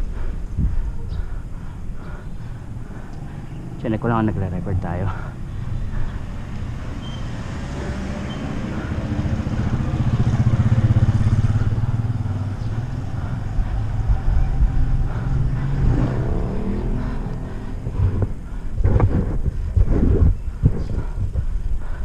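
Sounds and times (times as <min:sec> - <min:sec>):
vehicle engine passing: 0:00.0 - 0:22.0.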